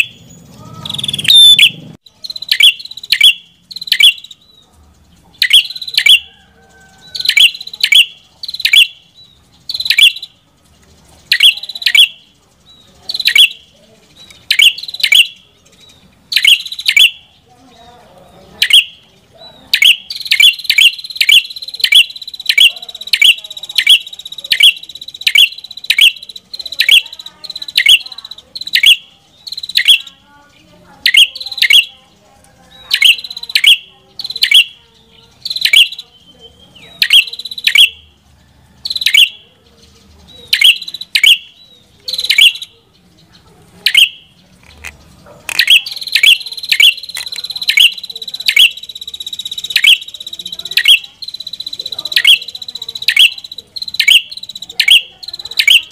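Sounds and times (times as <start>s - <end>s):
bird calling sharp notes: 0.0s - 4.6s, 5.3s - 10.4s, 11.2s - 12.4s, 13.1s - 17.4s, 18.5s - 19.1s, 19.7s - 30.2s, 31.0s - 32.1s, 32.7s - 38.2s, 38.8s - 39.5s, 40.4s - 43.0s, 43.8s - 55.9s.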